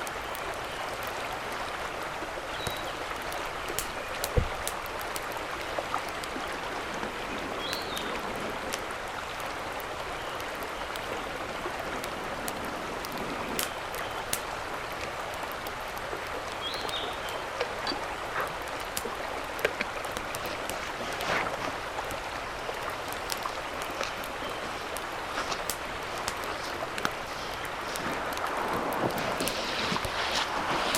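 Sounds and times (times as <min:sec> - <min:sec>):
mountain stream running: 0:00.0 - 0:30.9.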